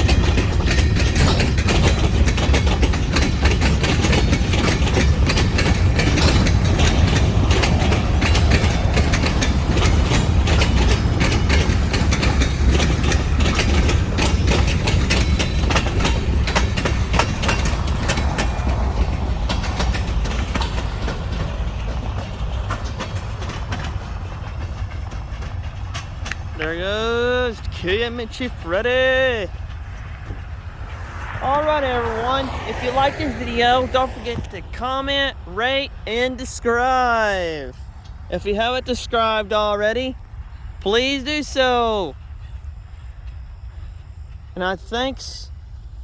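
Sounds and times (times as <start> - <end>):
freight train rumbling past: 0.0 - 46.0
train wheels clacking on rails: 0.0 - 46.0.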